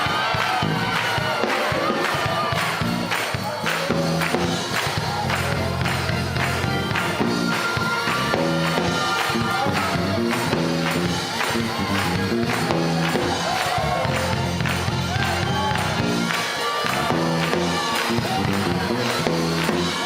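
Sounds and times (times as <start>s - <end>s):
tambourine beat: 0.0s - 20.0s
upbeat gospel music: 0.0s - 20.0s.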